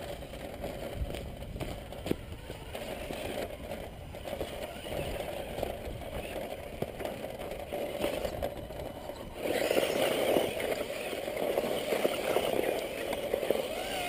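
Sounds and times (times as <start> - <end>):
rc truck driving over gravel: 0.0 - 14.0.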